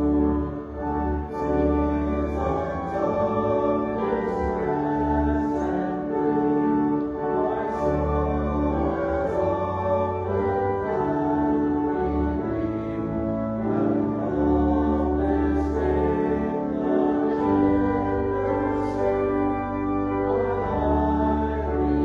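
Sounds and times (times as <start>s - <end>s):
church organ music: 0.0s - 22.0s
congregation singing: 0.0s - 22.0s.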